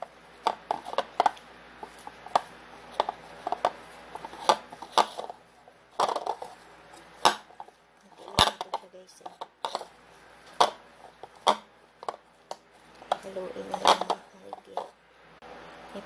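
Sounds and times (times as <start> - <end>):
utensil knocking and scraping bowl: 0.0 - 15.0.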